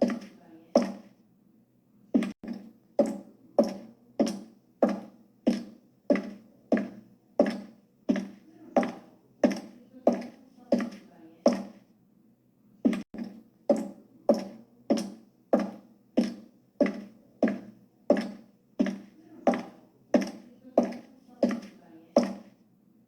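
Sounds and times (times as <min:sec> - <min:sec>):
high heel clicks: 0:02.2 - 0:11.8, 0:12.9 - 0:22.5.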